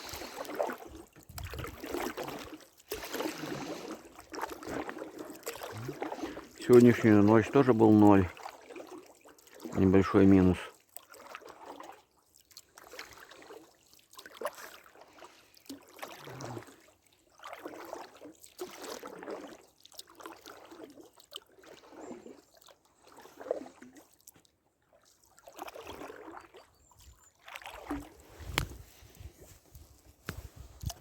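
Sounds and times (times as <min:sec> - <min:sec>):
oars splashing in water: 0:00.0 - 0:31.0.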